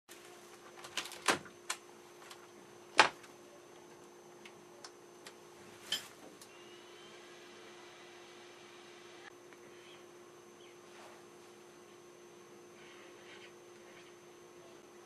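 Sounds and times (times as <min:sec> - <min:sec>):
faint high whine: 0:00.1 - 0:15.0.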